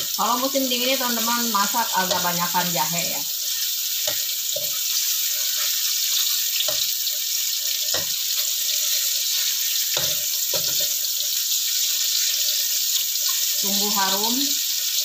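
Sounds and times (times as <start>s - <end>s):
oil sizzling in a wok: 0.0s - 15.0s
spatula scraping and knocking wok: 1.1s - 15.0s.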